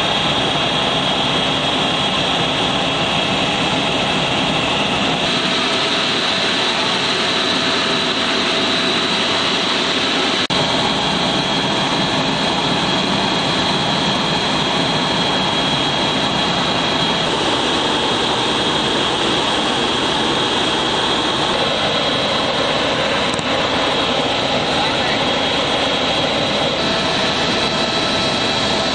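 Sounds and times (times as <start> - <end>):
helicopter turbine and rotor: 0.0 - 28.9.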